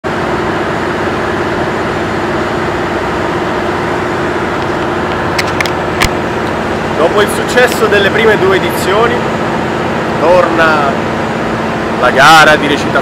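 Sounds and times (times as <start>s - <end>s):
ferry engines droning: 0.0s - 13.0s
low hum: 0.0s - 13.0s.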